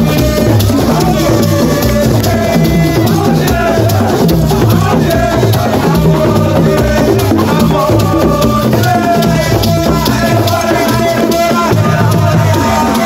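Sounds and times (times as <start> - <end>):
loud percussive music: 0.0 - 13.0.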